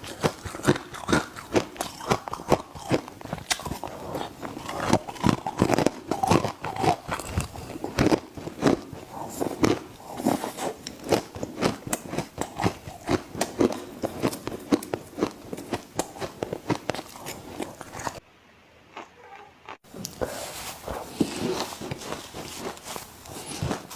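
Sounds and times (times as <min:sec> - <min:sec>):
person chewing ice: 0:00.0 - 0:18.2, 0:20.8 - 0:23.9.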